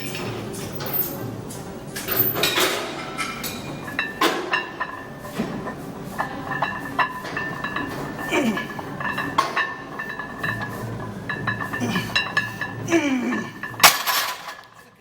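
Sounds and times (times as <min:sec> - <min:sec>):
metal weight plates clanking: 0:02.0 - 0:15.0.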